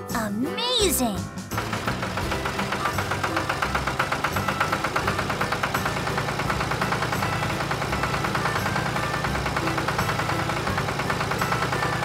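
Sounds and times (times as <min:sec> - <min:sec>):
combine harvester engine chugging: 0:01.4 - 0:12.0.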